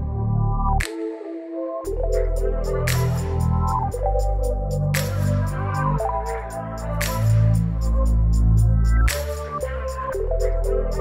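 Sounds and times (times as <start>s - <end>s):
deep bass: 1.9s - 11.0s
sustained synth notes: 1.9s - 11.0s
ticking beat: 1.9s - 11.0s.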